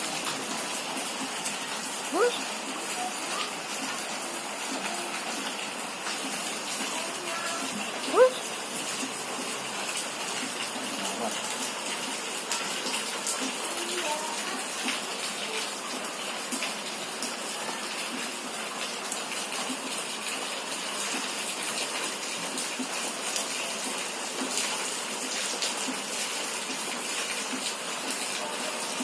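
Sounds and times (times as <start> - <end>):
rainwater rushing hiss: 0.0 - 29.0.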